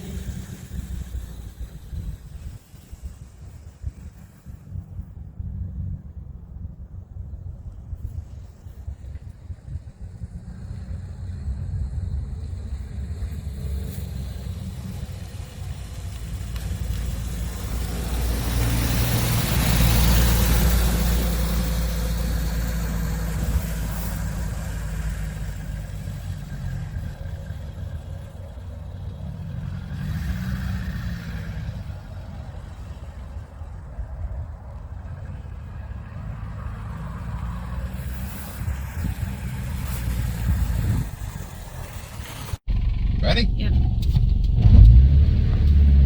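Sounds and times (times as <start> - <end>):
car engine: 0.0 - 46.0
road noise: 0.0 - 46.0.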